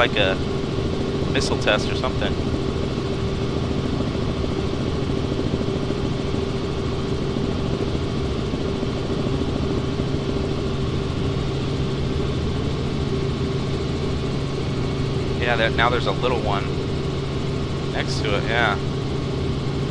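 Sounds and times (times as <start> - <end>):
helicopter engine and rotor drone: 0.0 - 19.9.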